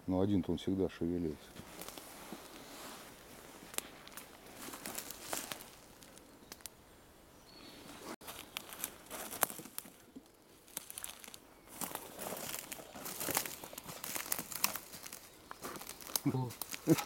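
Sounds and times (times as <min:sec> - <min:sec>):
hedgehogs rustling through dry leaves: 0:01.6 - 0:06.6, 0:08.2 - 0:17.0.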